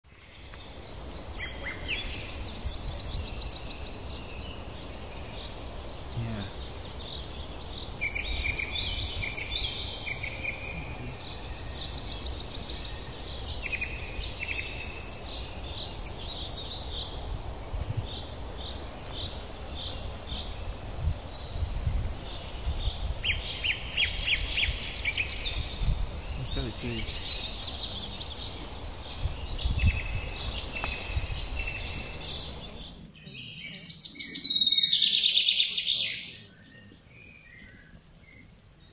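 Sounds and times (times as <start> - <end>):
birdsong trills and chirps: 0.1 - 38.9.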